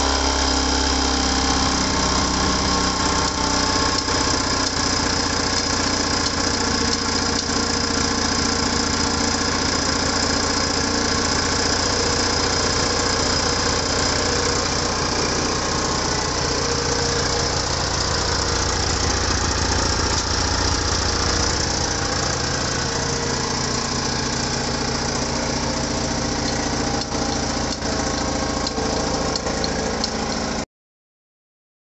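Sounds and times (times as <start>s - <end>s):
moped engine idling: 0.2s - 30.6s.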